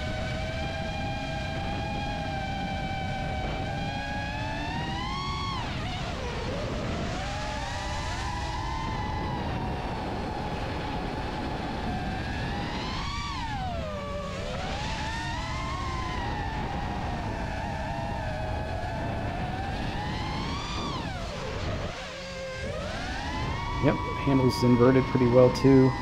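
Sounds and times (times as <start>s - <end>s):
drone motors whining: 0.0s - 26.0s
wind rushing on microphone: 0.0s - 26.0s.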